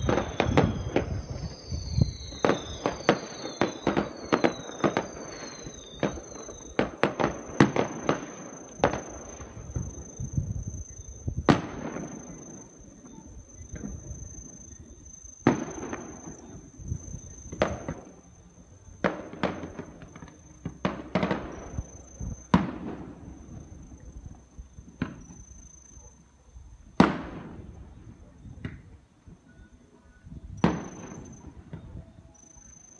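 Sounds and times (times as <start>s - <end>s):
firework booms with rolling echo: 0.0s - 26.0s, 26.8s - 29.0s, 30.5s - 32.2s.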